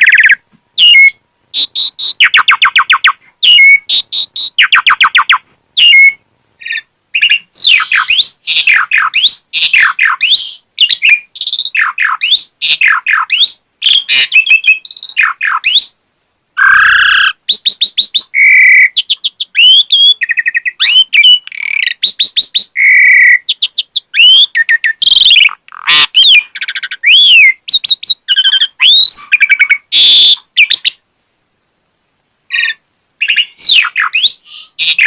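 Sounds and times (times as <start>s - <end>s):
starling singing: 0.0s - 16.0s, 16.6s - 31.0s, 32.5s - 35.0s.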